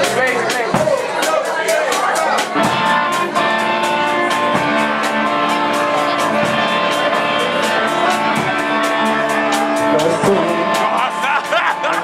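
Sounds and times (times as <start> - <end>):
drums: 0.0 - 12.0
steady cymbal beat: 0.0 - 12.0
guitar chords: 1.9 - 12.0.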